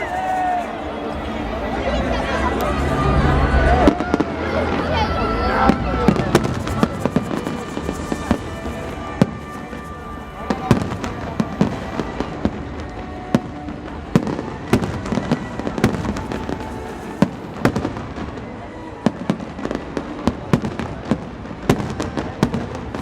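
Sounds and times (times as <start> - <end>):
fireworks bangs: 0.0 - 23.0
rumble of distant fireworks: 0.0 - 23.0.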